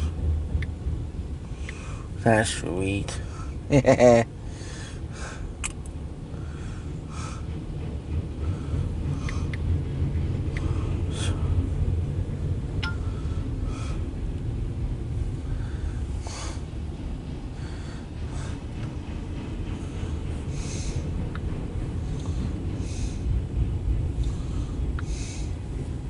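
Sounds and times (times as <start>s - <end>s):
freight train rumbling past: 0.0s - 26.0s
train clicks and knocks: 0.0s - 26.0s.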